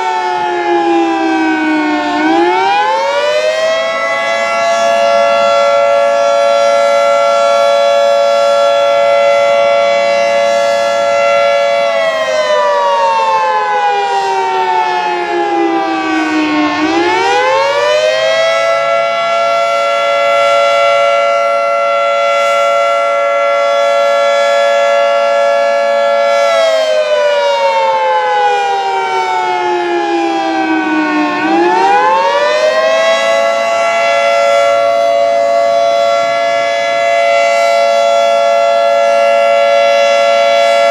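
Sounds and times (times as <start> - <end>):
fire siren wailing: 0.0 - 40.9.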